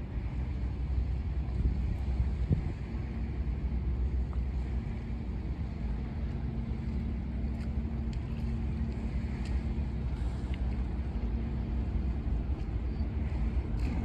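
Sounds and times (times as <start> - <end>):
ferry engines droning: 0.0 - 14.0
wind on microphone: 0.0 - 14.0.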